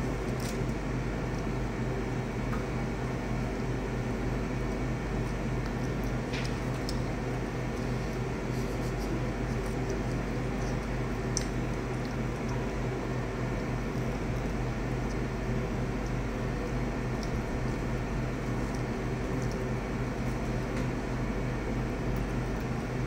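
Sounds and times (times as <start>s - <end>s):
low hum of room machinery: 0.0s - 23.0s.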